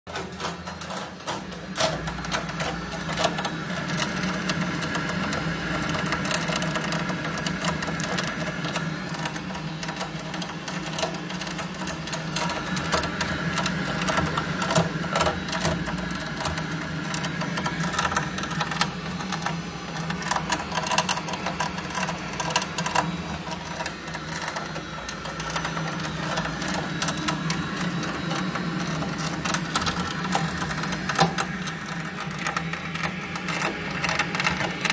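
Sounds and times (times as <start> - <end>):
boiler rattling and clicking: 0.1 - 34.9.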